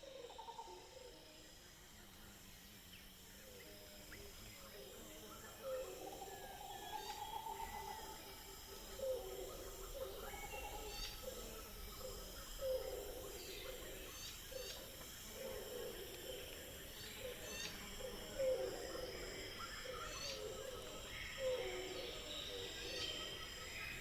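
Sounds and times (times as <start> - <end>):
high insect chorus: 0.0 - 24.0.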